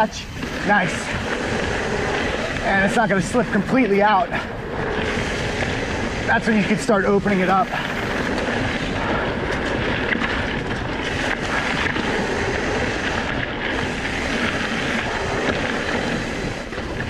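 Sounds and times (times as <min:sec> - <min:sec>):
bike rattling and ticking: 0:00.0 - 0:17.0
wind rush on microphone: 0:00.0 - 0:17.0.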